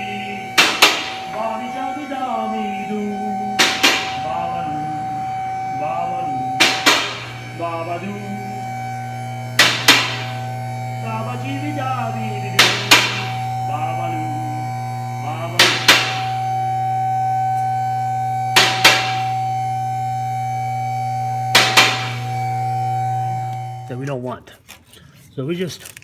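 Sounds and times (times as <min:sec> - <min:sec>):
electric pump motor humming: 0:00.0 - 0:24.1.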